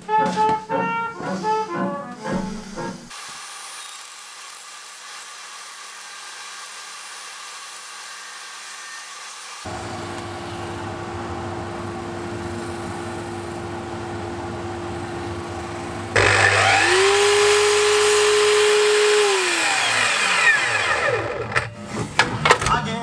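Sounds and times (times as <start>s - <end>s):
belt sander running: 1.3s - 21.8s
miter saw motor spinning: 3.1s - 21.8s.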